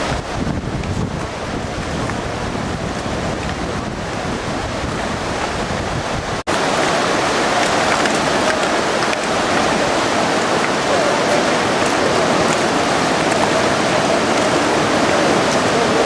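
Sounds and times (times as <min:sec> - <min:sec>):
rushing river water: 0:00.0 - 0:16.0
wind buffeting microphone: 0:00.0 - 0:16.0.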